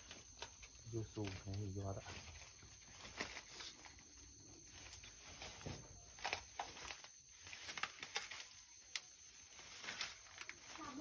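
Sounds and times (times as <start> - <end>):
footsteps in leaves: 0.0 - 11.0.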